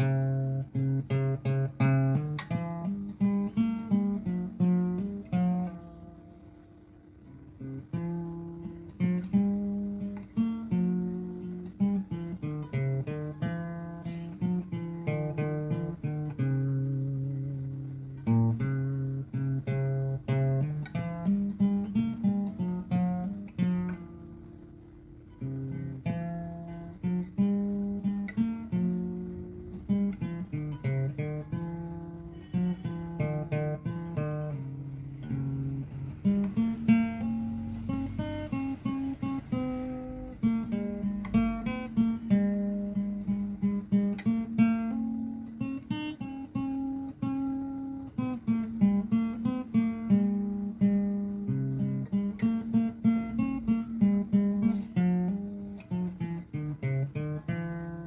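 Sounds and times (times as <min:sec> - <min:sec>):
acoustic guitar tune: 0:00.0 - 0:58.0.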